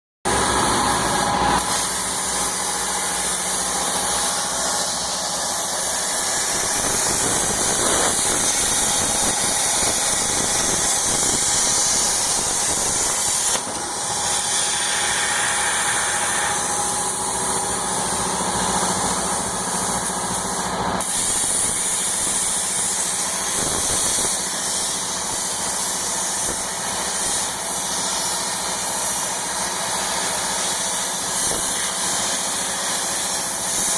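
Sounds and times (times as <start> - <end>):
plasma torch cutting hiss: 0.3 - 33.9.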